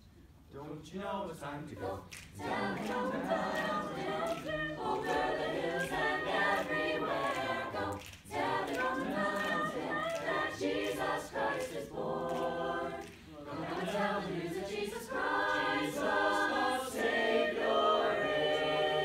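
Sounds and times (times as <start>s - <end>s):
a cappella choir singing: 1.6s - 19.0s.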